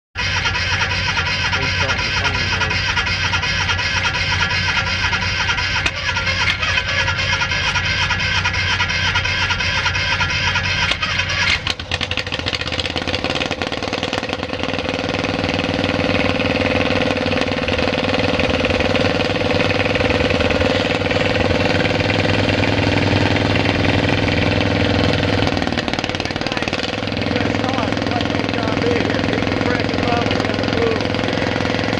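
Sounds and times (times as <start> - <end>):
heavy diesel engine running: 0.2 - 31.9
starting motor running loudly: 0.2 - 31.9.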